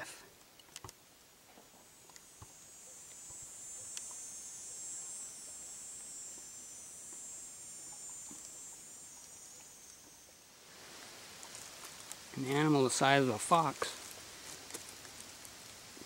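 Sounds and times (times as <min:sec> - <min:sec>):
insects singing: 0:00.6 - 0:16.0.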